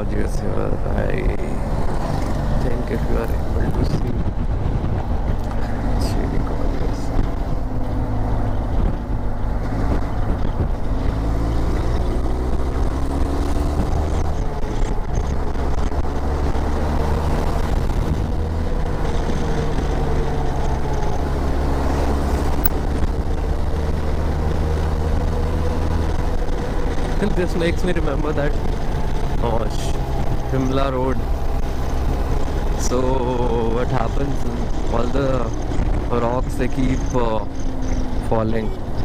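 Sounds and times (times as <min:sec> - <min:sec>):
motorcycle engine cruising: 0:00.0 - 0:39.0
wind and road noise: 0:00.0 - 0:39.0.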